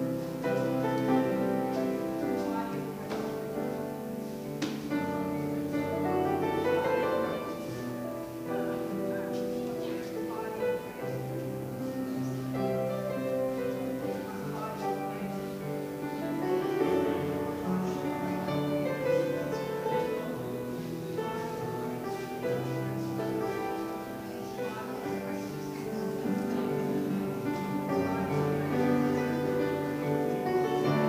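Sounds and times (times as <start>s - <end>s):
instrumental music: 0.0s - 31.0s.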